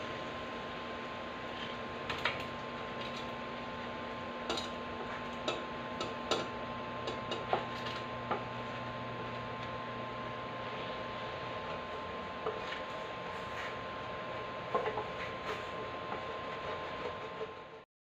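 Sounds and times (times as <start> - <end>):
steady hum: 0.0 - 17.8.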